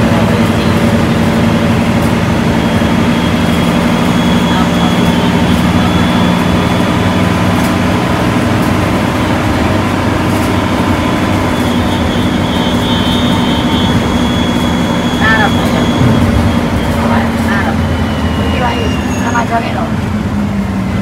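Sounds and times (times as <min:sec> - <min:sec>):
bus diesel engine running: 0:00.0 - 0:21.0
road noise: 0:00.0 - 0:21.0.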